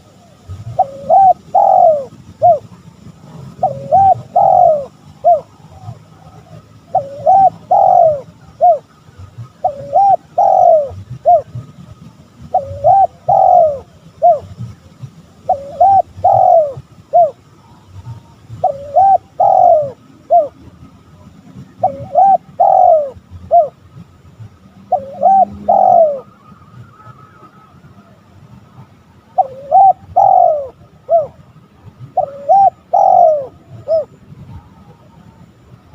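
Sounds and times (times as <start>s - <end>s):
dove cooing: 0.0s - 11.8s, 12.4s - 23.8s, 24.7s - 35.8s.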